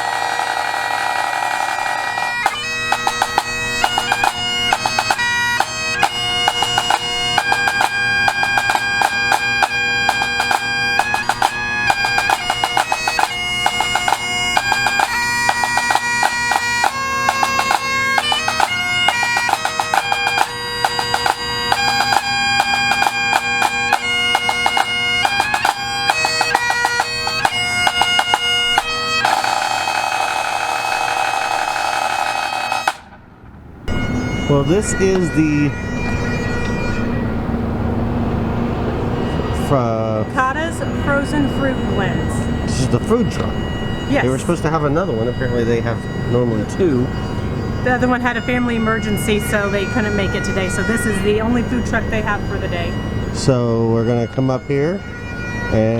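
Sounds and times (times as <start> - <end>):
bagpipes playing a tune: 0.0 - 33.2, 33.8 - 55.9.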